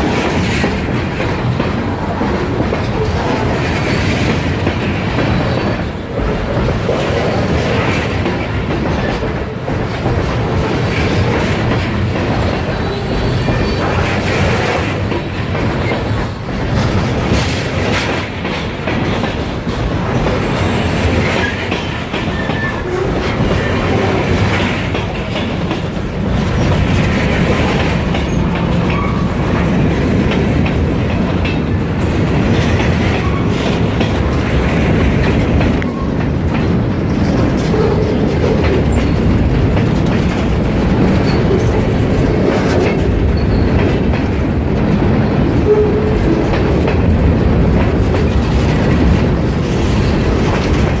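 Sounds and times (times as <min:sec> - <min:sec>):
freight train rumbling past: 0:00.0 - 0:51.0
steel wheels clattering over rail joints: 0:00.0 - 0:51.0.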